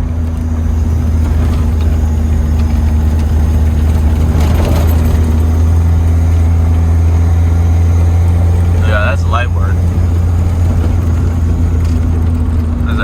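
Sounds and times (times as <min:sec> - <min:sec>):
engine drone from inside cab: 0:00.0 - 0:13.0
road noise: 0:00.0 - 0:13.0.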